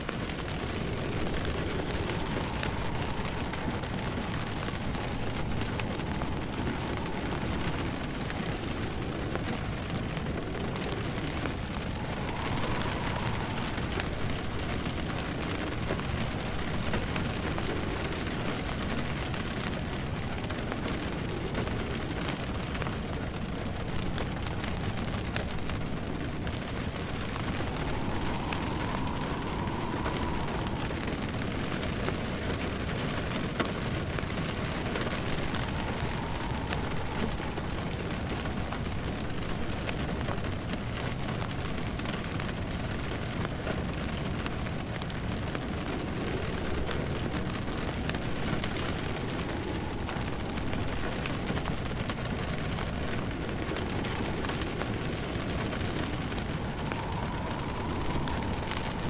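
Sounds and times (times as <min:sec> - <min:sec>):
rain falling: 0:00.0 - 0:59.0
wood fire crackling: 0:00.0 - 0:59.0.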